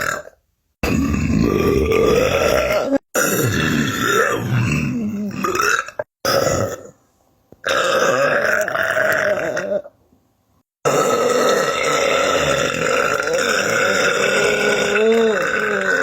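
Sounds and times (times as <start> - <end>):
person burping: 0.0 - 7.0, 7.6 - 9.9, 10.8 - 16.0.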